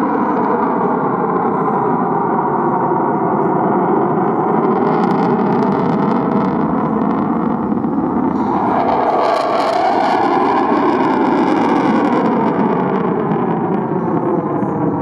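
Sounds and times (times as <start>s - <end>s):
aircraft engine roar: 0.0s - 15.0s.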